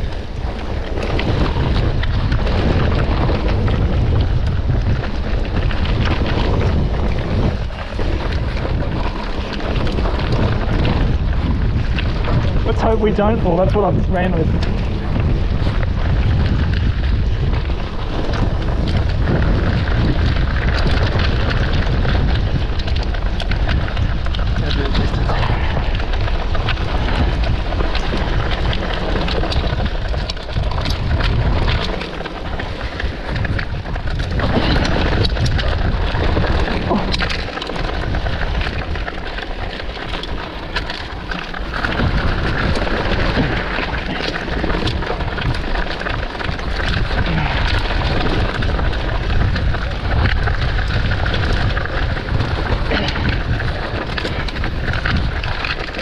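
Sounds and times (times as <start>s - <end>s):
bike rattling over rough ground: 0.0s - 56.0s
tyre and wind noise: 0.0s - 56.0s.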